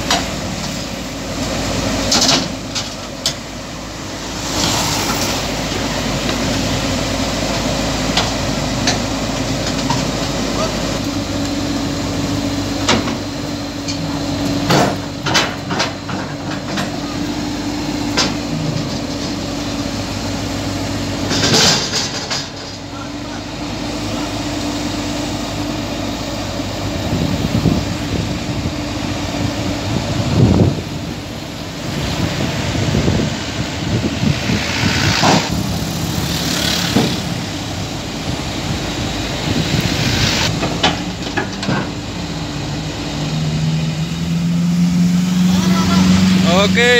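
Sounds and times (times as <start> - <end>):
diesel machinery idling: 0.0 - 46.9.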